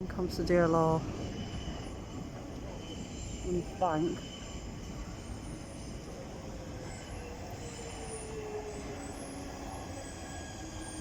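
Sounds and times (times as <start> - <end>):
train running noise: 0.0 - 11.0.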